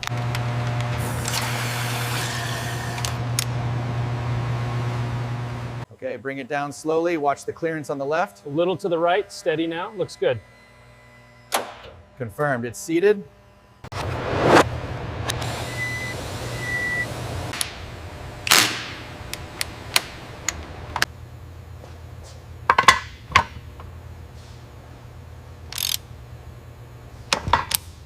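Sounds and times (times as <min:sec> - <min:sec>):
low steady hum: 0:02.9 - 0:28.0.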